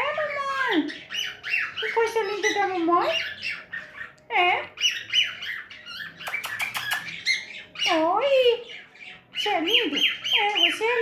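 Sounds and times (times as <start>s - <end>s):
pet bird squawking and chirping: 0.0s - 11.0s.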